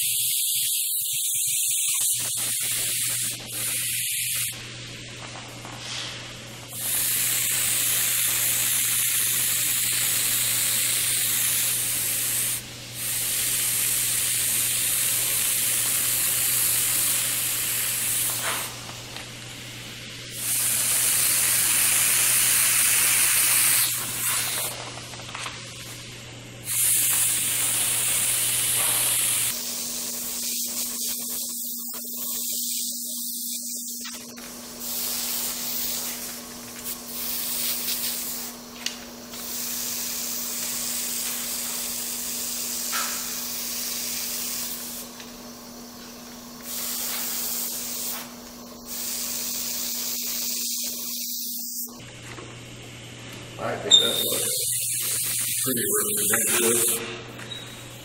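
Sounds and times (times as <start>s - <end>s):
airbrush spraying hiss: 0.0s - 4.6s, 5.7s - 18.9s, 19.7s - 24.8s, 26.6s - 38.6s, 39.3s - 45.9s, 46.5s - 52.0s, 53.9s - 57.0s.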